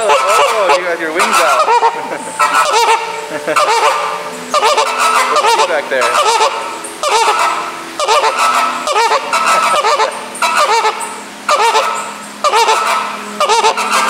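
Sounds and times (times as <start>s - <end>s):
flamingos honking: 0.0s - 14.0s.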